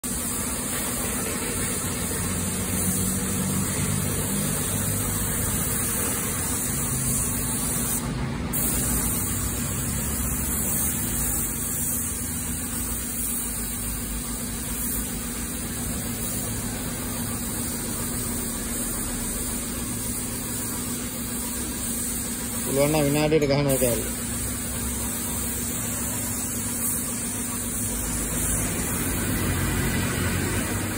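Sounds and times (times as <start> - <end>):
spray gun hissing: 0.0 - 30.9.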